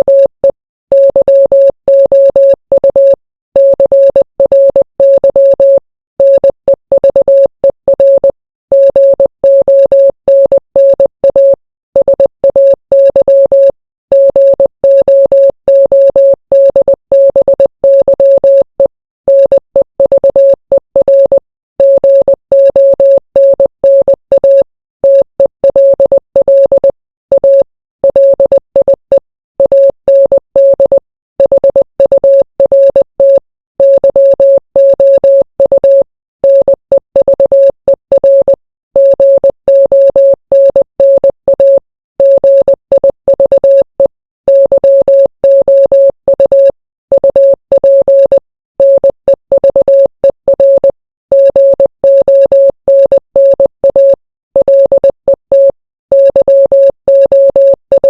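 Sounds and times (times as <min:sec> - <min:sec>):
morse code beeps: 0:00.0 - 0:58.0.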